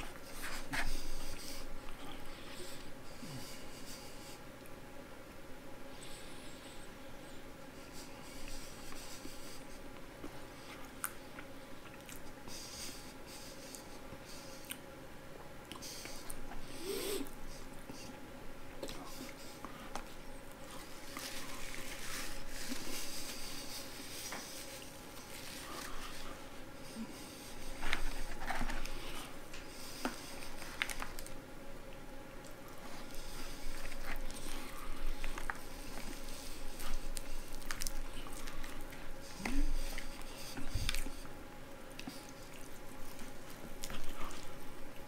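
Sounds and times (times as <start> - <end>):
faint steady hum: 0.0 - 45.0
chewing fried chicken: 7.7 - 45.0.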